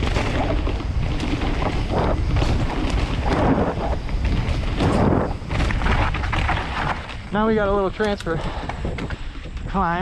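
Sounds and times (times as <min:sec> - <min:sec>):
tyres rumbling on dirt: 0:00.0 - 0:10.0
wind buffeting microphone: 0:00.0 - 0:10.0.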